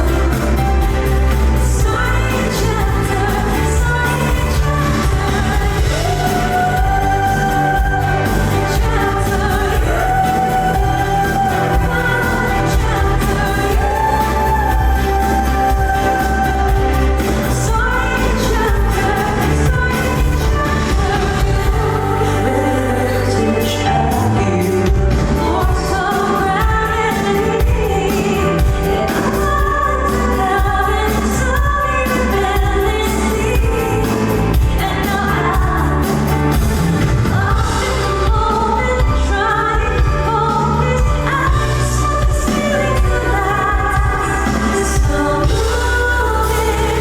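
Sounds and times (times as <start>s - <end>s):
live band through pa: 0.0s - 47.0s
pop ballad over sound system: 0.0s - 47.0s.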